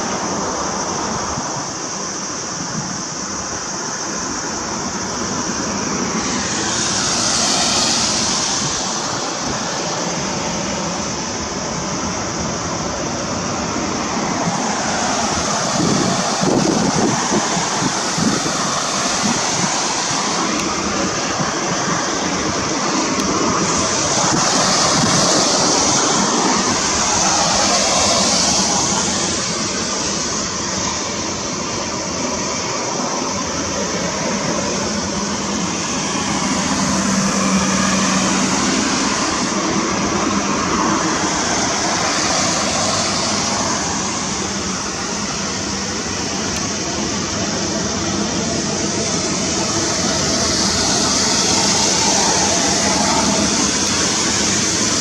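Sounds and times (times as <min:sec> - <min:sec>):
high hissing: 0:00.0 - 0:55.0
outdoor rushing noise: 0:00.0 - 0:55.0.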